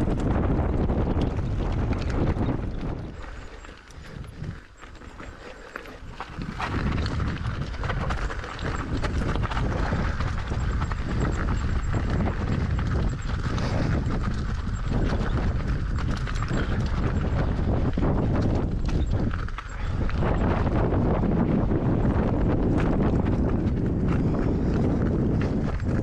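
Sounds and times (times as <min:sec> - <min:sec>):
bike knocking and rattling over rocks: 0:00.0 - 0:26.0
steady low rumble: 0:00.0 - 0:26.0.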